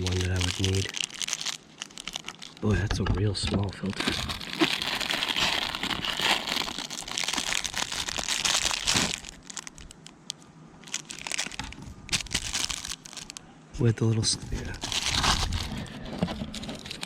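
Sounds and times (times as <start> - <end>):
packaging crinkling and rustling: 0.0 - 2.9, 3.6 - 13.4, 14.4 - 17.0.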